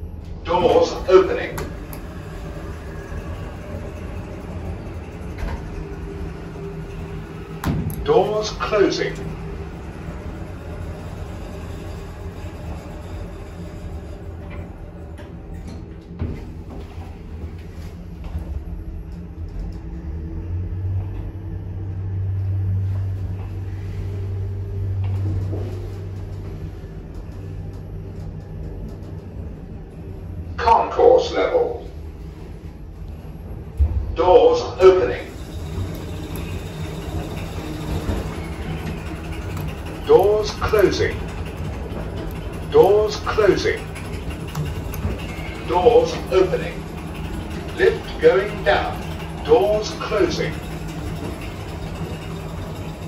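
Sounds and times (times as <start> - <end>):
low mechanical hum and rumble: 0.0 - 53.0.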